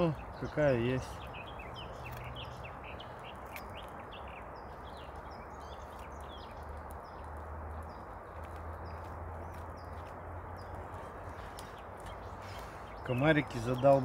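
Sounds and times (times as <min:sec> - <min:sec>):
songbird chirping: 0:00.0 - 0:14.0
steady outdoor hiss: 0:00.0 - 0:14.0.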